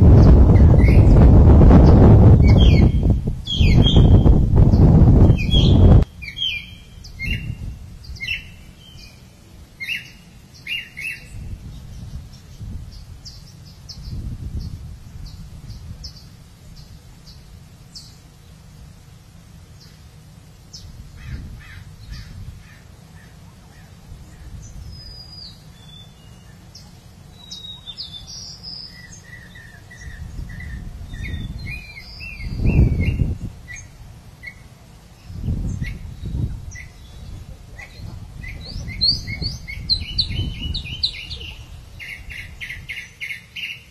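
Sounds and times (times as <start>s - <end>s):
wild birds chirping: 0.0s - 43.9s.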